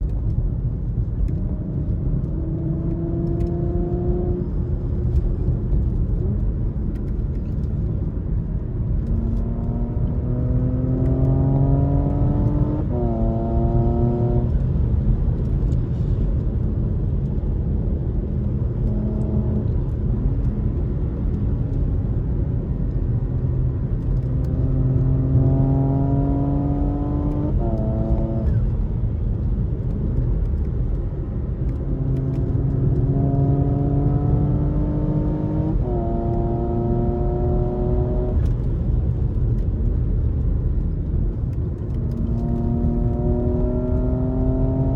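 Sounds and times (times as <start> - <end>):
road and wind noise: 0.0 - 44.9
car engine accelerating hard: 0.2 - 16.0, 18.4 - 44.9.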